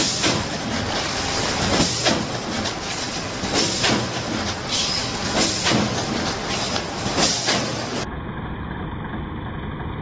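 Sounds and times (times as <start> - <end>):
machine hiss: 0.0 - 8.0
packaging machine clatter: 0.0 - 8.0
sharp machine clacks: 0.0 - 8.1.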